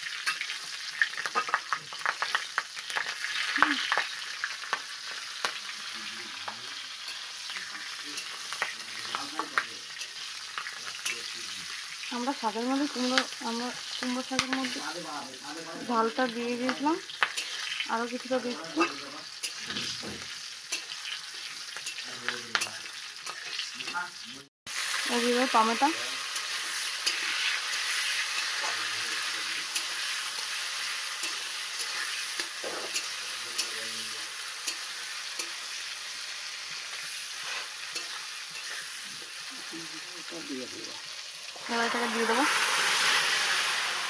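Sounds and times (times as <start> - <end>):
food sizzling in hot oil: 0.0 - 44.0.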